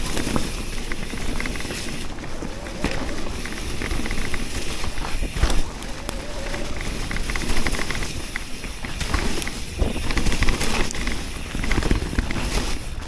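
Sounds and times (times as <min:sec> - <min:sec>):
bike rattles and ticks: 0:00.0 - 0:13.0
bike tyres rolling over leaves: 0:00.0 - 0:13.0
wind rumbling on microphone: 0:00.0 - 0:13.0.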